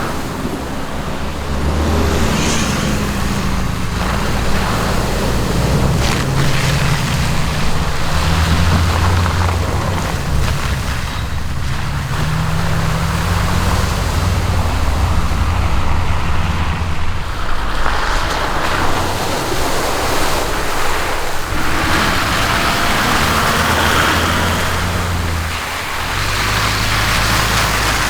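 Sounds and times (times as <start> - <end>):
diesel engine running: 0.0 - 28.0
wind and tyres rushing: 0.0 - 28.0.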